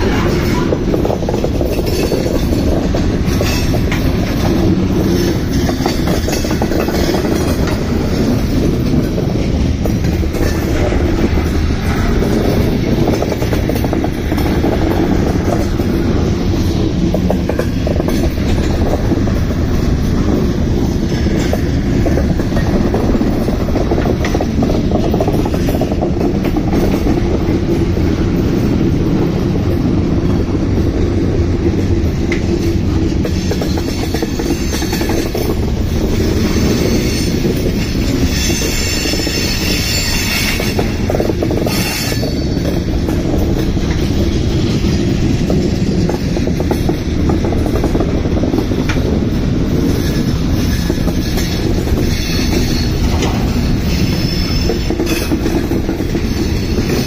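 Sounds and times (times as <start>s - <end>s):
train wheels squealing on rails: 0.0s - 30.5s, 32.3s - 57.0s
freight train rumbling past: 0.0s - 57.0s.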